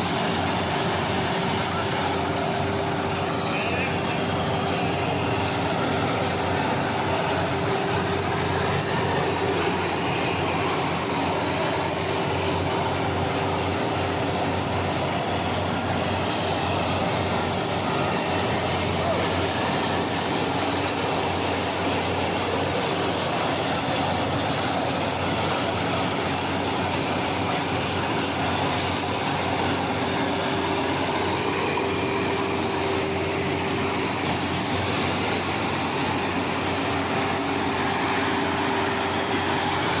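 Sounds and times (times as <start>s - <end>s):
combine harvester running: 0.0s - 40.0s.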